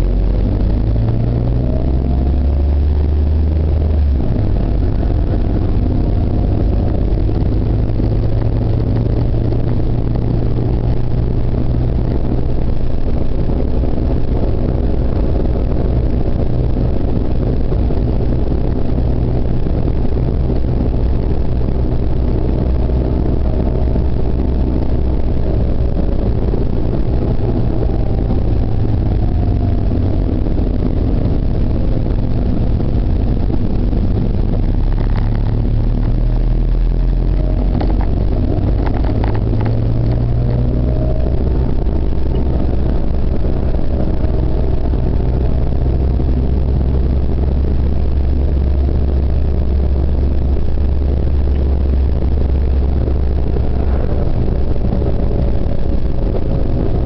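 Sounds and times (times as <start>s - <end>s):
car engine and tyre drone: 0.0s - 57.0s.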